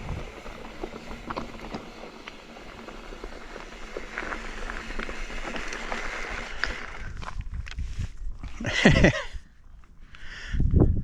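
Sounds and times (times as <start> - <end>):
bike tyres crunching on gravel: 0.0 - 9.1
bike clicks and rattles: 0.0 - 9.2.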